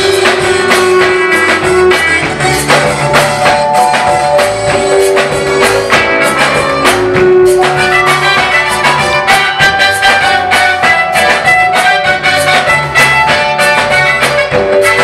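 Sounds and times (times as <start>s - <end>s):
gospel band music: 0.0s - 15.0s.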